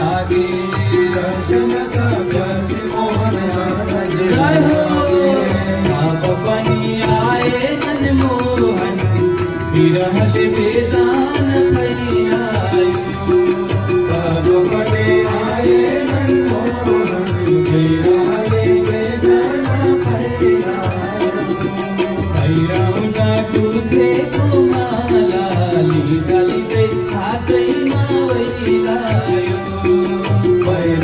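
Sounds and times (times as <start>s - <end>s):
high clicking percussion beat: 0.0s - 31.0s
tabla drumming: 0.0s - 31.0s.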